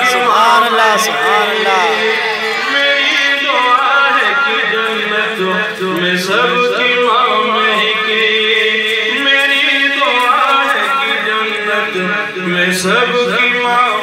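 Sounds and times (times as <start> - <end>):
man singing devotional song: 0.0 - 14.0.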